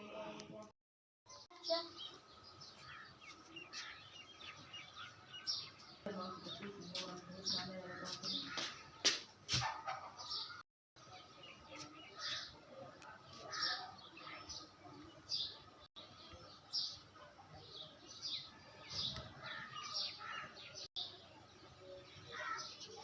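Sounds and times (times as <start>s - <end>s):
birds chirping: 1.3s - 23.0s.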